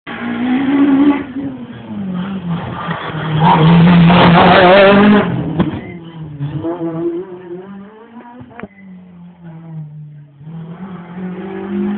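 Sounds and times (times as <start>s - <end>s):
rally car engine revving by: 0.1s - 11.9s.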